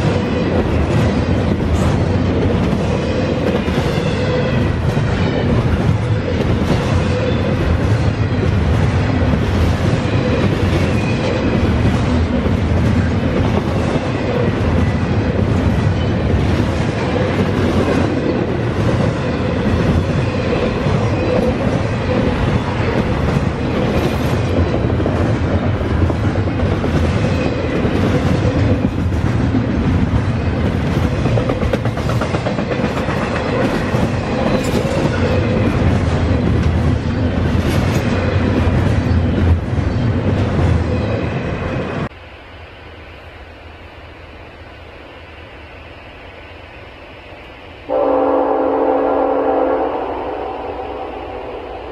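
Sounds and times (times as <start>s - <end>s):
clickety-clack over rail joints: 0.0s - 42.1s
steel wheels rumbling on rail: 0.0s - 51.9s.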